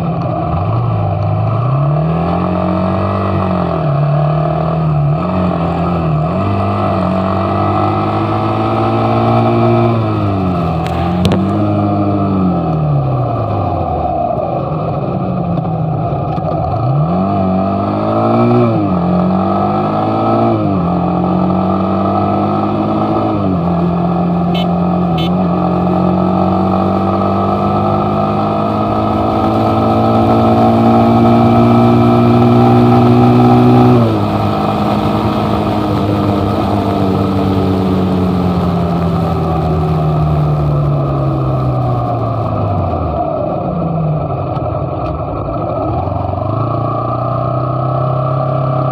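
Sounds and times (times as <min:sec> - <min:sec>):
motorcycle engine shifting gears: 0:00.0 - 0:48.9.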